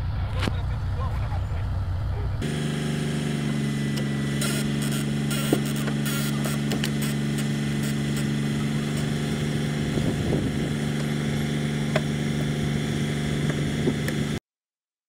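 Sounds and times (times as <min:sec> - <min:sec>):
heavy vehicle engine under load: 0:00.0 - 0:14.4.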